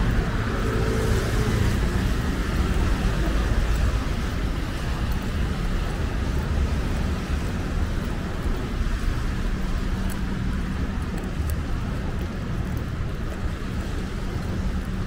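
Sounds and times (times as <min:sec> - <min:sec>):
rumble of passing vehicles: 0:00.0 - 0:15.0
tyres hissing on wet road: 0:00.0 - 0:15.0.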